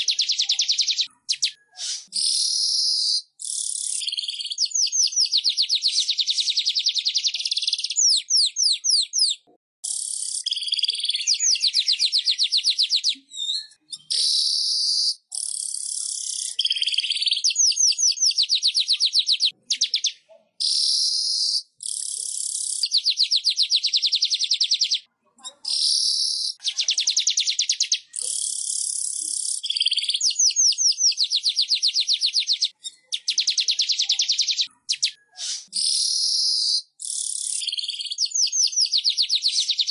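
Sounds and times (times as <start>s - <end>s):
bird trilling: 0.0s - 25.1s, 25.8s - 39.9s.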